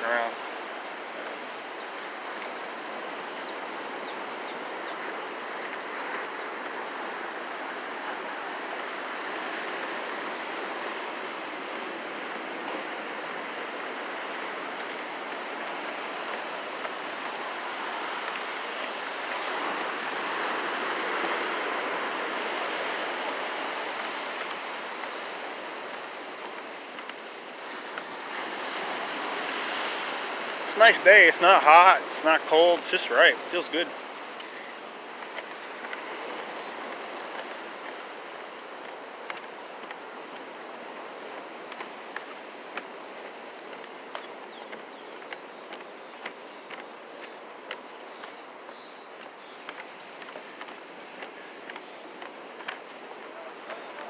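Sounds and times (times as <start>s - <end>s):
ocean surf washing in: 0.0s - 54.0s.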